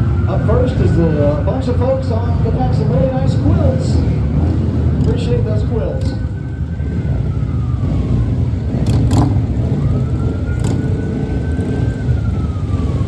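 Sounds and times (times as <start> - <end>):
low rumble of vehicles: 0.0 - 13.0
siren wailing: 0.0 - 13.0.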